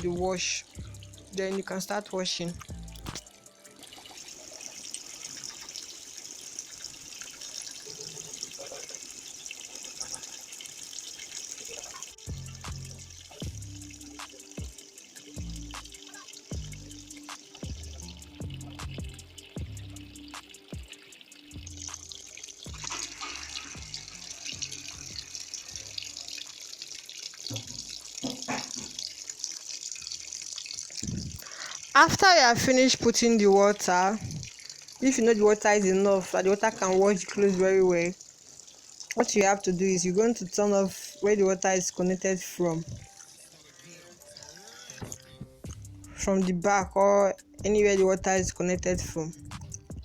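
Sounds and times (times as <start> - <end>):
water filling washing machine tub: 0.0 - 45.4.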